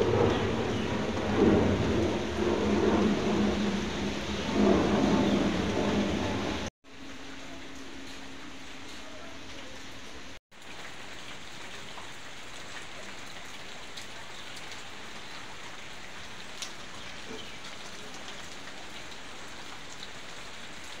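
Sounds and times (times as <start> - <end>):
rain falling on leaves: 0.0 - 21.0.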